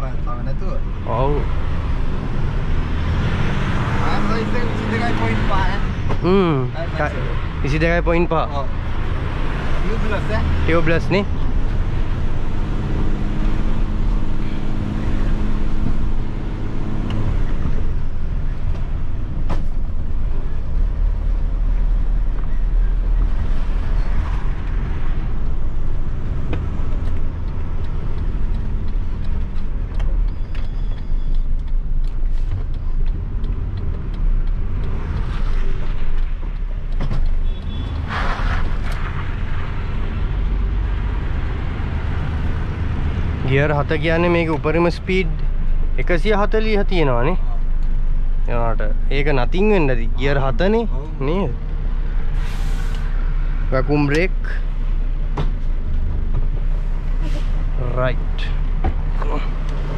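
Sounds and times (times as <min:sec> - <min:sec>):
diesel truck engine rumble: 0:00.0 - 0:59.9.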